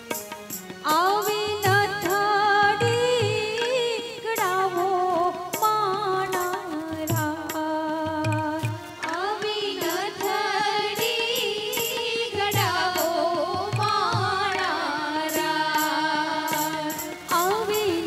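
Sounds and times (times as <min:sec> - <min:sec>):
keyboard: 0:00.0 - 0:18.0
low tabla strokes: 0:00.0 - 0:18.0
woman singing: 0:00.8 - 0:18.0.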